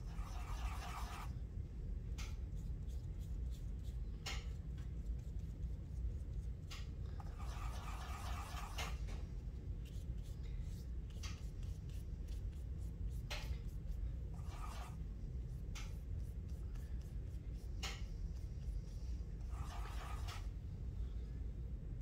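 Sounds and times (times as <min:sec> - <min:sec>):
paintbrush scrubbing on paint: 0:00.0 - 0:01.4, 0:02.4 - 0:20.6
steady low hum: 0:00.0 - 0:22.0.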